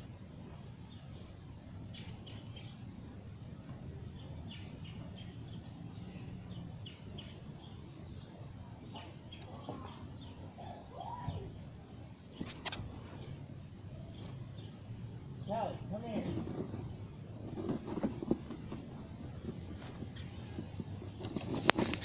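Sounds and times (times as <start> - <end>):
low outdoor rumble: 0.0 - 22.0
small bird chirping: 0.6 - 22.0.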